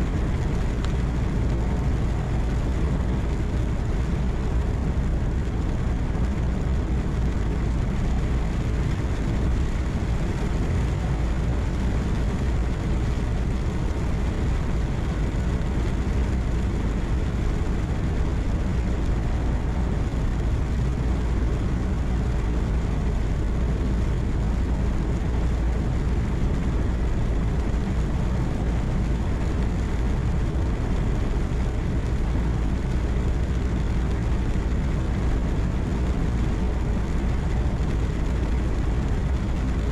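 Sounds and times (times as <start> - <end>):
truck engine drone: 0.0 - 39.8
road noise: 0.0 - 39.9.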